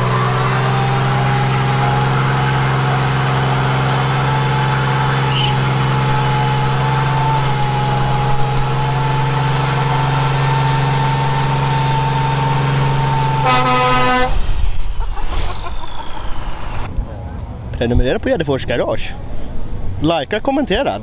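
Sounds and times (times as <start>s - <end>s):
steady vehicle drone: 0.0s - 21.0s.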